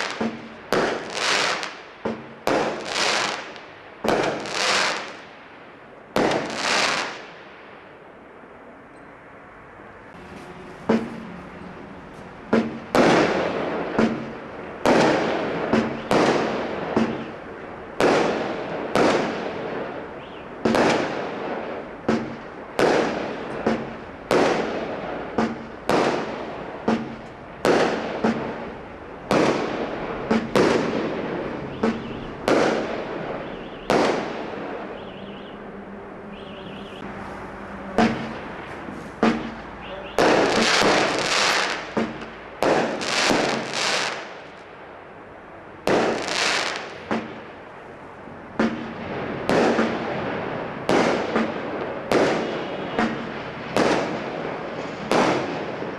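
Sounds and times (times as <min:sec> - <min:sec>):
fireworks banging: 0:00.0 - 0:05.4, 0:06.1 - 0:07.4, 0:10.1 - 0:35.6, 0:36.3 - 0:44.7, 0:45.8 - 0:47.7, 0:48.5 - 0:55.9.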